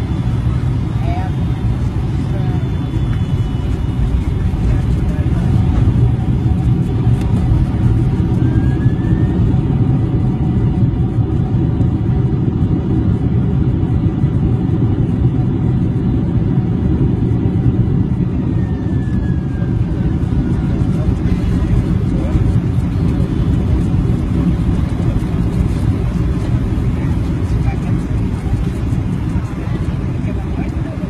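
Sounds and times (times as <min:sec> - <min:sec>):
airliner engines rumbling: 0:00.0 - 0:31.0.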